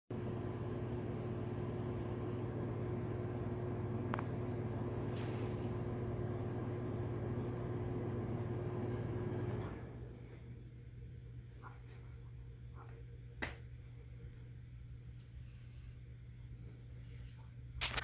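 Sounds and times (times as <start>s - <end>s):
low machine hum: 0.1s - 18.0s.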